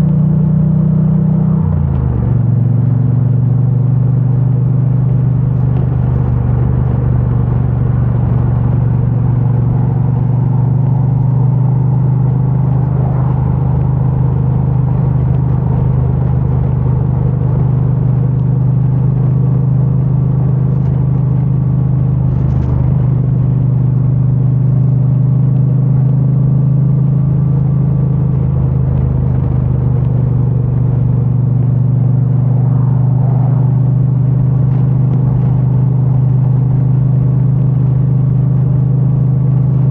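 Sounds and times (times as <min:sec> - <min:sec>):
muffled motorcycle engine cruising: 0:00.0 - 0:39.9.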